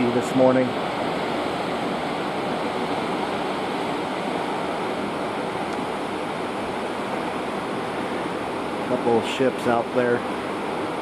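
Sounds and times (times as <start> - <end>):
churned sea water rushing: 0.0 - 11.0.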